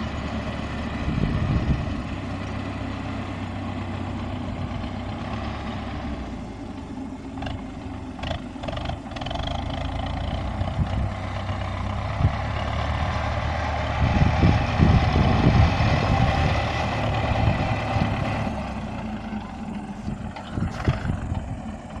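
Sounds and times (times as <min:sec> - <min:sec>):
flail mower cutting grass: 0:00.0 - 0:22.0
tractor diesel engine under load: 0:00.0 - 0:22.0.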